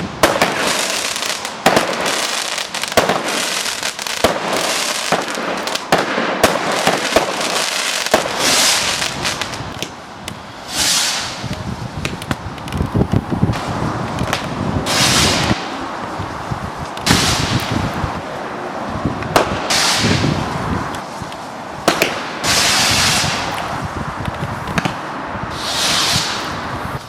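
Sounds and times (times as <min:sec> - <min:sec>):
fireworks cracking and crackling: 0:00.0 - 0:27.0.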